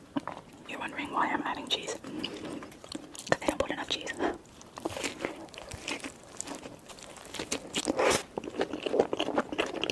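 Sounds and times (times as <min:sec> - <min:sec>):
chewing with crisp crunches: 0:00.0 - 0:00.7, 0:02.0 - 0:09.9.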